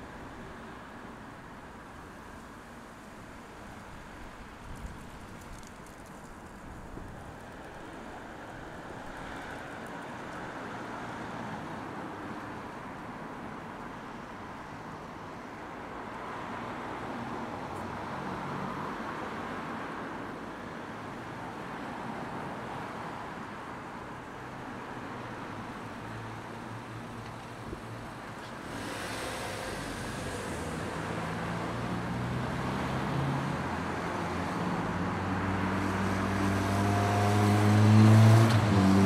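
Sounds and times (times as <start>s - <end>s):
cars passing: 2.8s - 39.0s.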